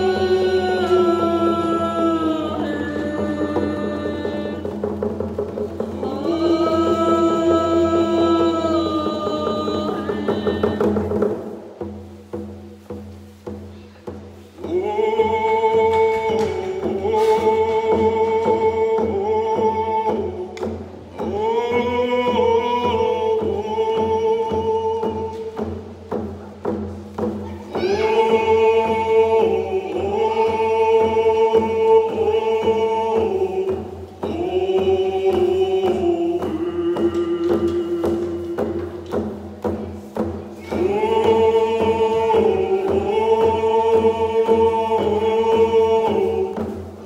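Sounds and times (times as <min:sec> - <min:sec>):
group singing in unison: 0:00.0 - 0:47.0
hand drum beat: 0:00.0 - 0:47.0.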